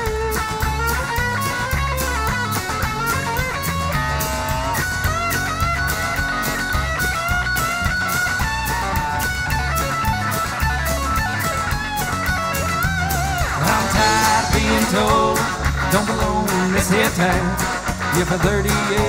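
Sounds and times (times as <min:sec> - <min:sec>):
drum kit: 0:00.0 - 0:19.0
electric guitar lead: 0:00.0 - 0:19.0
strummed acoustic guitar: 0:00.0 - 0:19.0.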